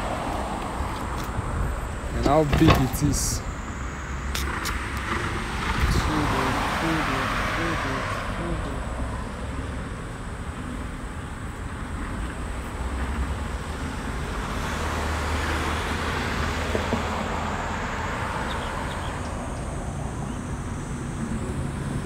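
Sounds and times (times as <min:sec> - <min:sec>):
cars driving by: 0:00.0 - 0:22.0.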